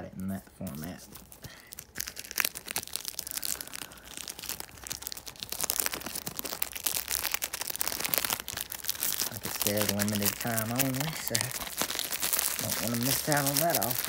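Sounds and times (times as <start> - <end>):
plastic shrink wrap crinkling: 0.3 - 14.0.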